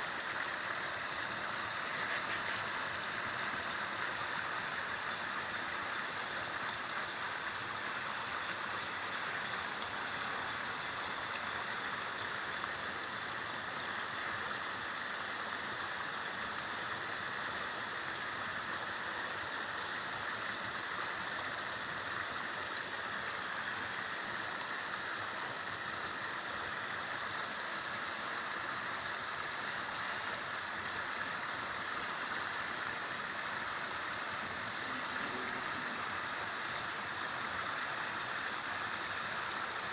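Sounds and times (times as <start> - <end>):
rushing canal water: 0.0 - 39.9.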